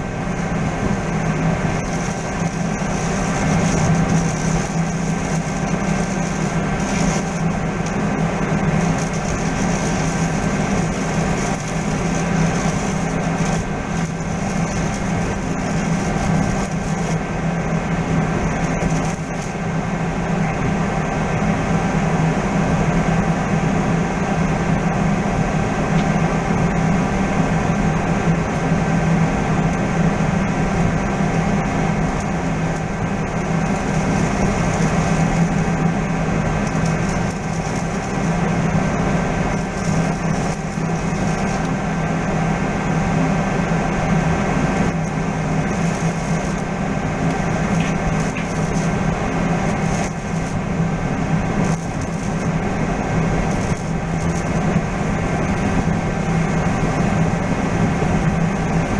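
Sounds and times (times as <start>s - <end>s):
machinery droning: 0.0s - 58.9s.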